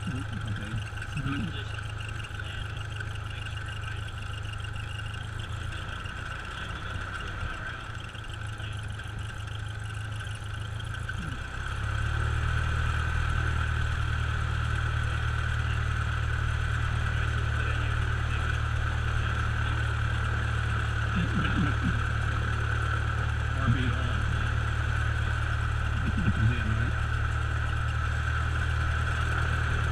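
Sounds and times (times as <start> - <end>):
light aircraft engine running: 0.0 - 29.9.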